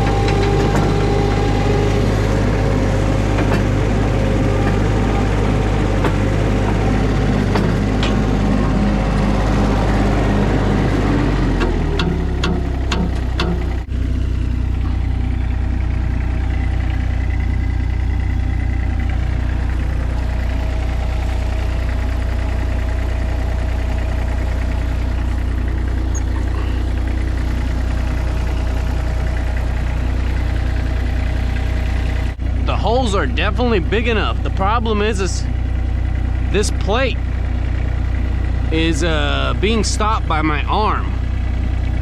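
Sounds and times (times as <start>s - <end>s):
loader engine idling: 0.0s - 42.0s.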